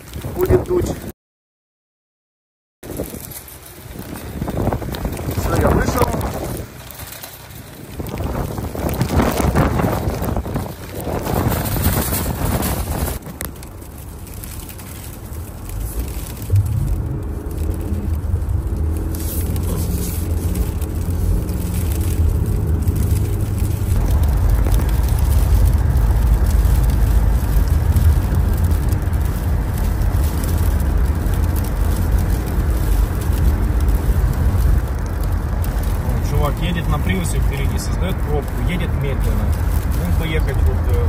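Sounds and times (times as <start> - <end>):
car engine and road rumble: 0.0 - 1.1, 2.8 - 41.0.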